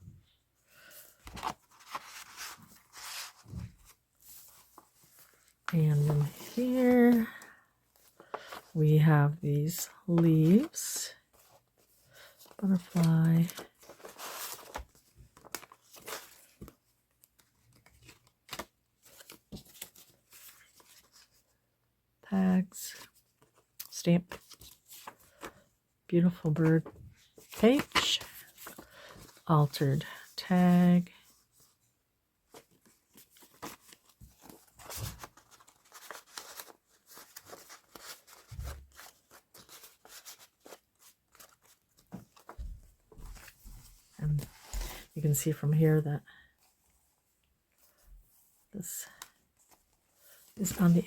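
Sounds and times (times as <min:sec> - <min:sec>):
paper rustling: 0:00.8 - 0:09.1, 0:09.7 - 0:21.6, 0:23.0 - 0:25.7, 0:26.3 - 0:30.5, 0:32.5 - 0:45.2, 0:46.6 - 0:51.0.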